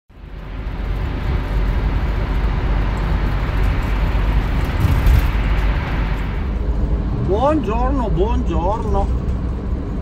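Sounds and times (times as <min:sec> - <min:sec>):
road and engine rumble: 0:00.1 - 0:10.0.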